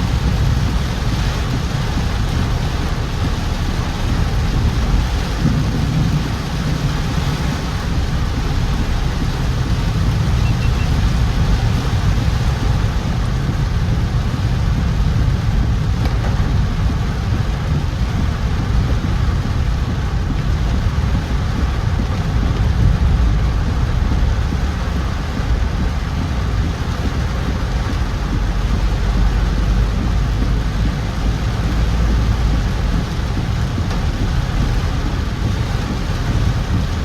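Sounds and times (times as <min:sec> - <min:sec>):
low car rumble: 0:00.0 - 0:37.0
rain and wet road hiss: 0:00.0 - 0:37.0.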